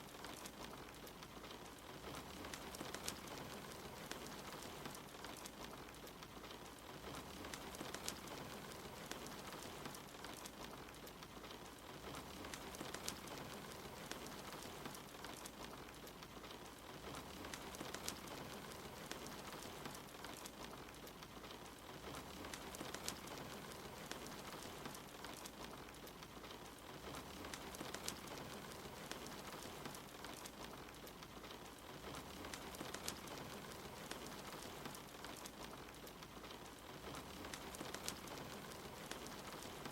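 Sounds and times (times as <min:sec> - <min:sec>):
steady rain hiss: 0:00.0 - 0:39.9
wood fire crackling: 0:00.0 - 0:39.9.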